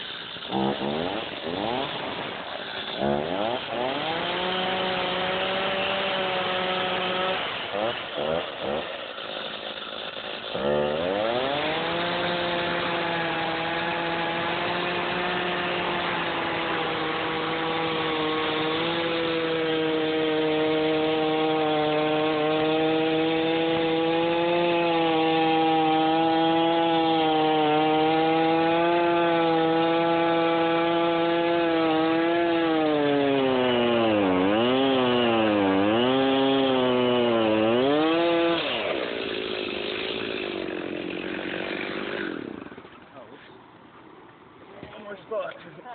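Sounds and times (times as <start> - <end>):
chainsaw cutting log: 0.0 - 43.5.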